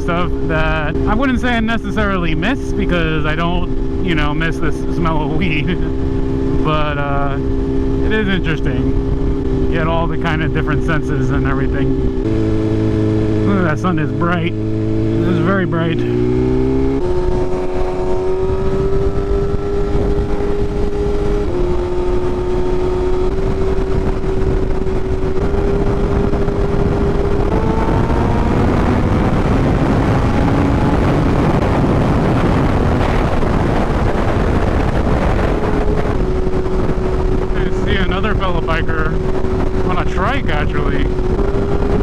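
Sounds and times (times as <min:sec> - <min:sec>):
motorcycle engine shifting gears: 0:00.0 - 0:42.0
wind and road rush: 0:00.0 - 0:42.0.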